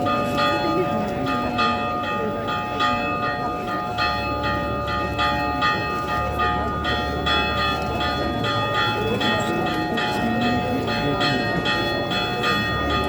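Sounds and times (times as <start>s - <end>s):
church bell ringing: 0.0s - 13.0s.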